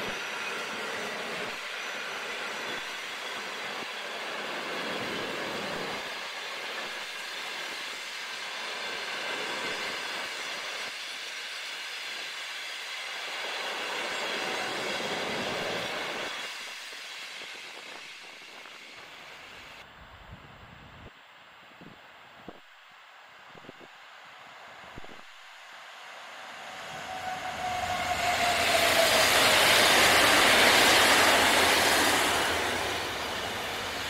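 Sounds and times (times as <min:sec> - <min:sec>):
train wheels rumbling on rails: 0:00.0 - 0:19.8, 0:26.3 - 0:34.0.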